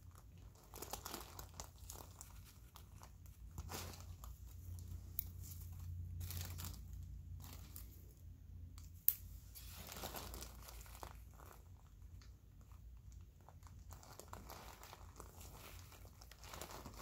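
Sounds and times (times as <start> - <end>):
crinkly rustling of drape: 0.0 - 8.2, 9.4 - 17.0
low steady hum: 0.0 - 17.0.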